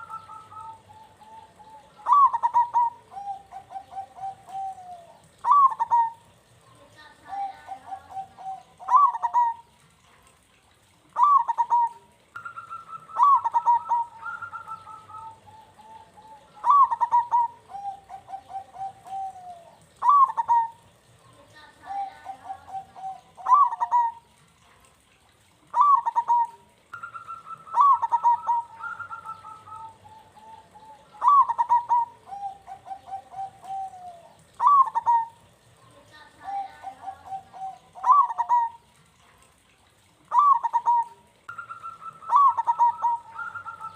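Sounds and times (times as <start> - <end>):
dove cooing song: 0.0 - 10.1, 10.8 - 24.4, 25.5 - 43.9.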